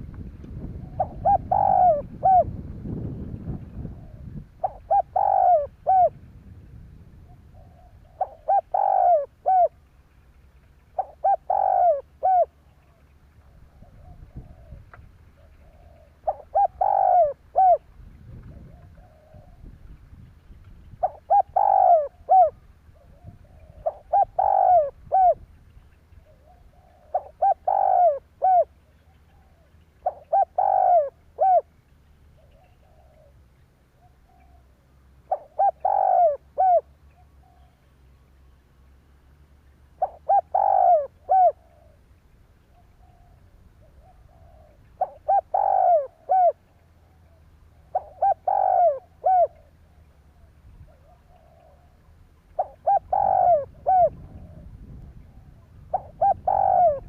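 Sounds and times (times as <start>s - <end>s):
dove cooing: 0.0s - 9.9s, 10.8s - 20.2s, 20.8s - 37.9s, 39.8s - 57.0s.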